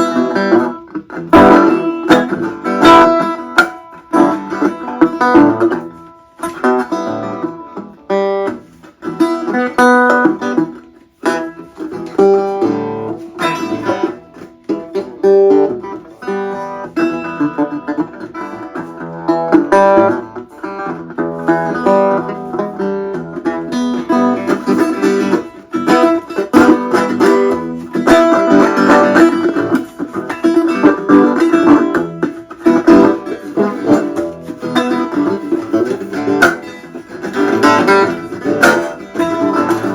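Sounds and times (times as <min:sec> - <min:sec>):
resonator guitar picked notes: 0:00.0 - 0:39.9.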